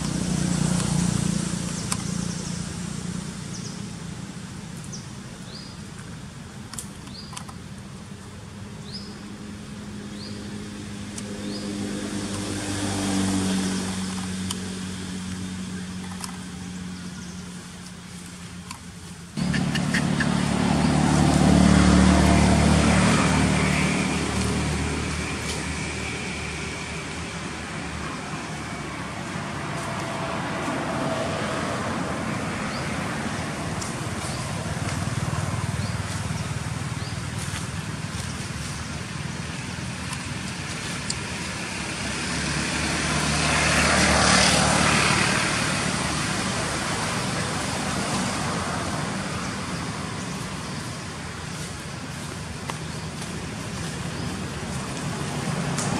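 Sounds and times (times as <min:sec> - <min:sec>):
motor traffic passing: 0:00.0 - 0:55.9.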